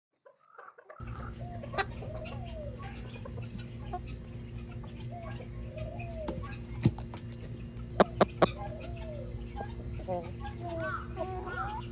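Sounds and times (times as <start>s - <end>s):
chickens clucking: 0.2s - 11.9s
steady low hum: 1.0s - 11.9s.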